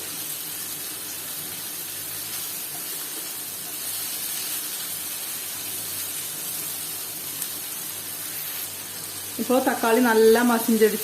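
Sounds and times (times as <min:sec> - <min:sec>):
food sizzling in butter: 0:00.0 - 0:11.0.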